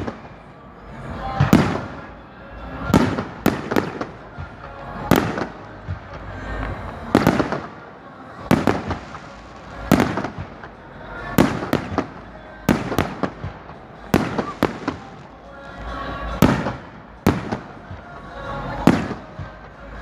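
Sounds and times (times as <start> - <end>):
fireworks bursting with crackle: 0.0 - 20.0.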